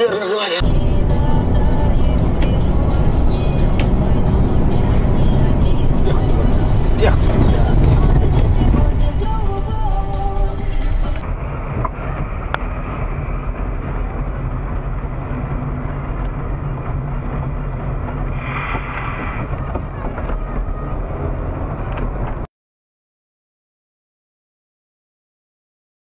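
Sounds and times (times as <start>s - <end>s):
car engine and road noise: 0.0s - 22.5s.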